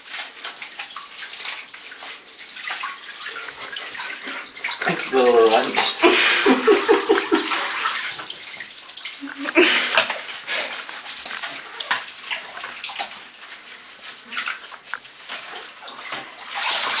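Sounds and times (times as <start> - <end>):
water sloshing in a bathtub: 0.0 - 17.0.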